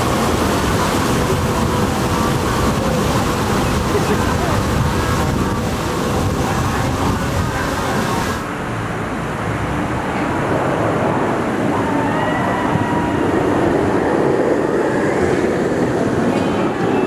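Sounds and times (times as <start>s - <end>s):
roller coaster rumbling on track: 0.0s - 17.0s.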